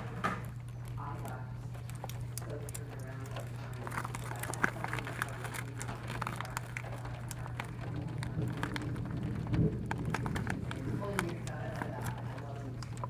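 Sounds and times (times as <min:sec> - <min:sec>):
rain dripping and pattering: 0:00.0 - 0:13.0
steady low hum: 0:00.0 - 0:13.0.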